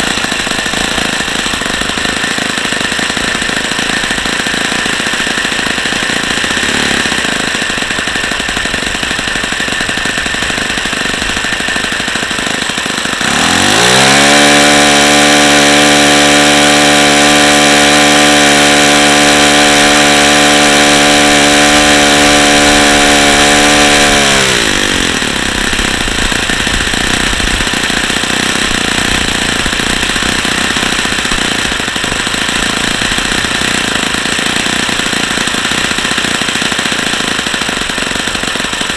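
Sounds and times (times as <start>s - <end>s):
model engine running: 0.0s - 38.9s.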